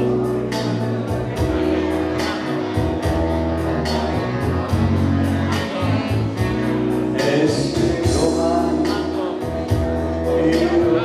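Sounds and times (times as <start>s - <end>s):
live band music: 0.0s - 11.0s
man singing: 0.0s - 11.0s.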